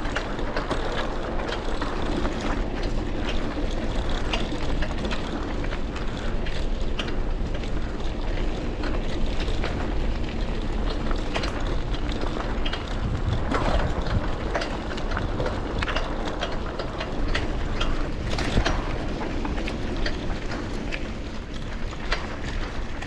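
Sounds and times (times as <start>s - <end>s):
bike clicks and rattles: 0.0s - 23.0s
wind rushing over microphone: 0.0s - 23.0s.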